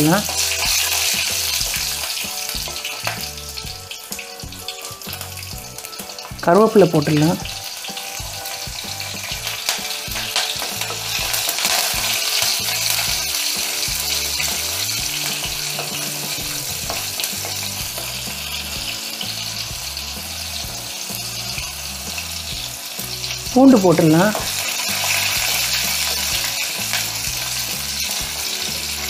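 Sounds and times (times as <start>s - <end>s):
leaves sizzling in hot oil: 0.0s - 29.0s.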